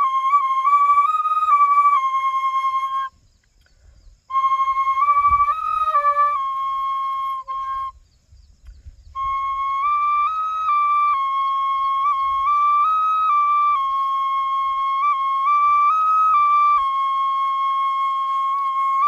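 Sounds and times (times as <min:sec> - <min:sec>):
flute folk melody: 0:00.0 - 0:19.0.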